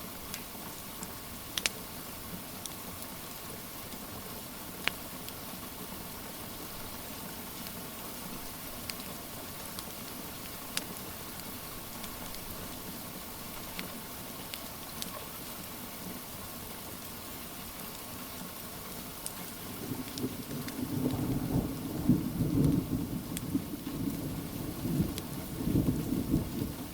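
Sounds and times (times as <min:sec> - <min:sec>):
rain hissing: 0:00.0 - 0:26.9
wood fire crackling: 0:00.0 - 0:26.9.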